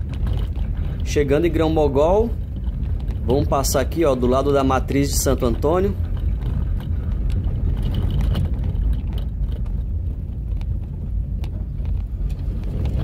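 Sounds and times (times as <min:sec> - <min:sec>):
car rumbling over cobblestones: 0:00.0 - 0:13.0
tyres knocking and rattling: 0:00.0 - 0:13.0.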